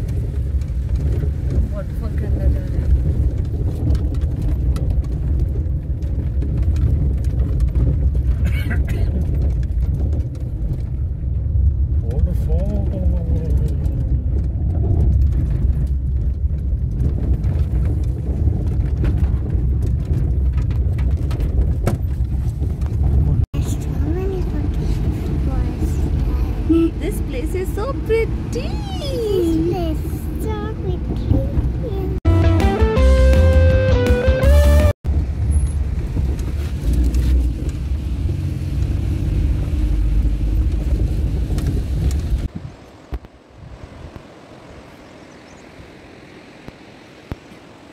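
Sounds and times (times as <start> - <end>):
car low rumble: 0.0 - 47.9.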